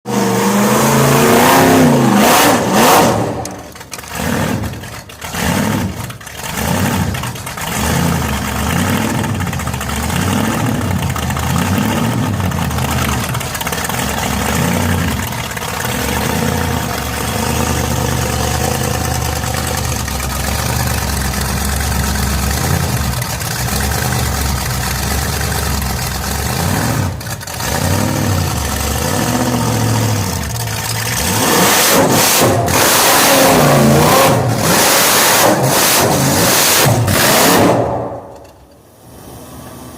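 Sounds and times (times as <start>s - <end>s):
drag car engine revving: 0.1s - 39.9s.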